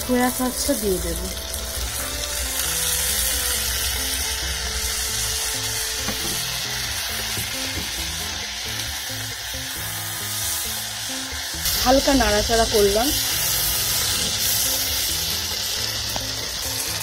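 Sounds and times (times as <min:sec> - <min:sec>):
background music: 0:00.0 - 0:17.0
food sizzling in a frying pan: 0:00.0 - 0:17.0.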